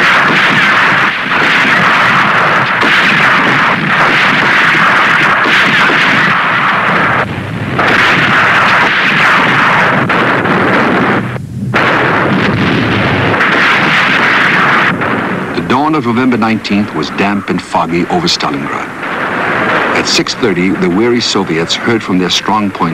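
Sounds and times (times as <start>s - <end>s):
low rumble: 0.0s - 21.9s
artillery and rocket barrage: 0.0s - 22.9s.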